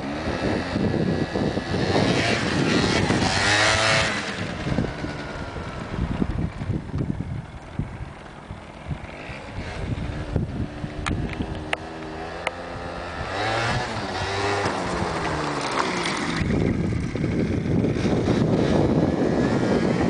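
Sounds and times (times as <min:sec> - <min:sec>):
scooter engine revving: 0:00.0 - 0:20.0
wind rumbling on microphone: 0:00.0 - 0:20.0.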